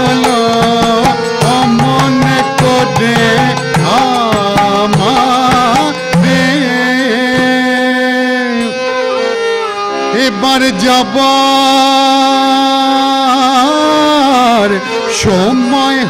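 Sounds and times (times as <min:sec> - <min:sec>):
harmonium: 0:00.0 - 0:16.0
man singing: 0:00.0 - 0:16.0
violin: 0:00.0 - 0:16.0.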